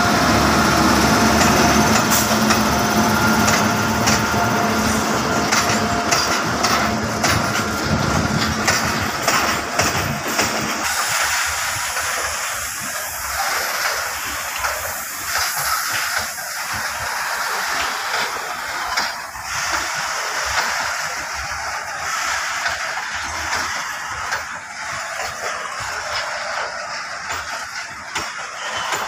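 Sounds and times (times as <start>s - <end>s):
train low rumble: 0.0s - 29.0s
train wheels hissing on rails: 0.0s - 29.0s.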